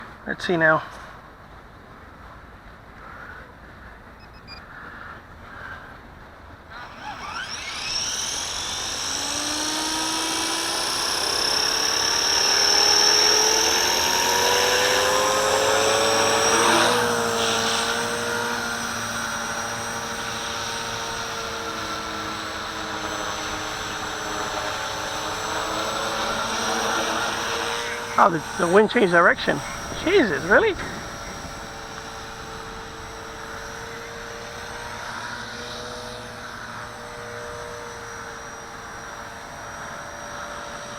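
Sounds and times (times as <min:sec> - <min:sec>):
rc helicopter motor whine: 0:06.6 - 0:40.9.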